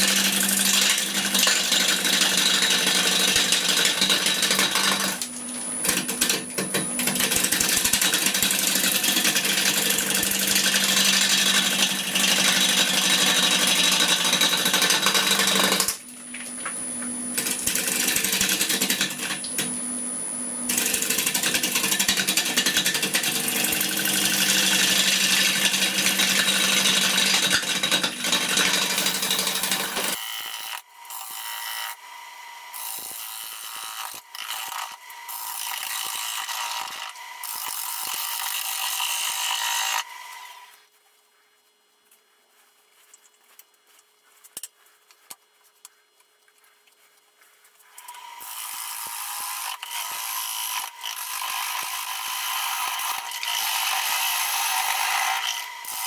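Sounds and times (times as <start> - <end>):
wood lathe motor hum: 0.0 - 40.7, 48.0 - 56.0.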